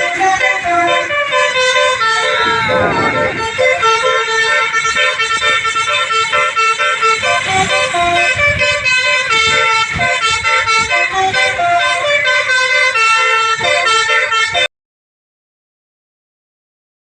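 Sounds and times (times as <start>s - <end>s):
bus horn playing melody: 0.0s - 14.7s
road rumble: 0.0s - 14.7s.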